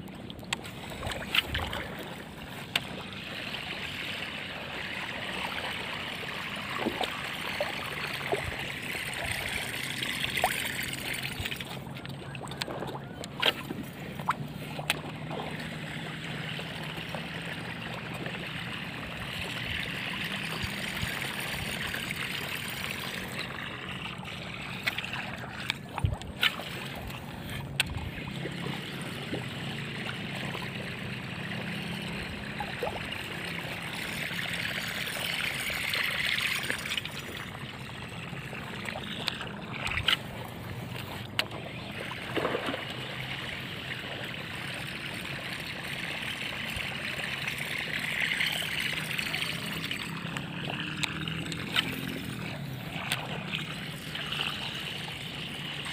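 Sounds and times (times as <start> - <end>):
low steady hum: 0.0 - 55.9
water lapping: 0.0 - 55.9.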